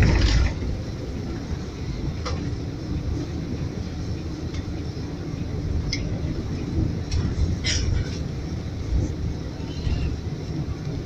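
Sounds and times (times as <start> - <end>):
bus engine and tyres rumbling: 0.0 - 11.0.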